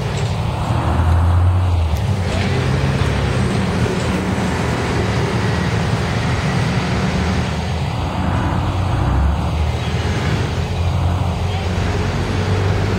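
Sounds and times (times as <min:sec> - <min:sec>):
bus engine accelerating: 0:00.0 - 0:12.9
street traffic noise: 0:00.0 - 0:12.9.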